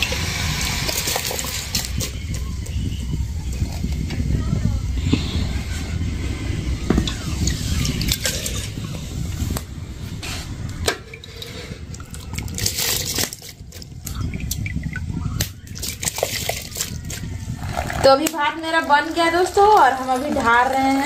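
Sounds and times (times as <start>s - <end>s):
water pouring and dripping: 0.0s - 4.2s, 6.9s - 9.7s, 10.6s - 21.0s.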